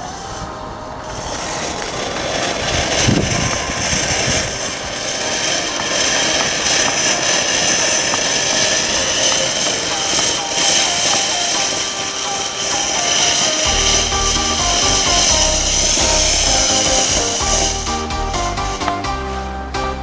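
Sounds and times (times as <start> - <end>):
firework crackling: 0.0 - 20.0
firework fountain hissing sparks: 0.0 - 20.0.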